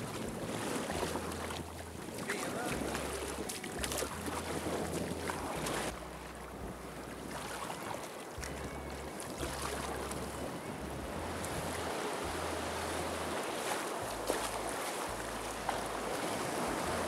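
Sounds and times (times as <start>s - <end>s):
kayak paddling: 0.0s - 17.0s
waves splashing: 0.0s - 17.0s
wind buffeting microphone: 0.0s - 17.0s.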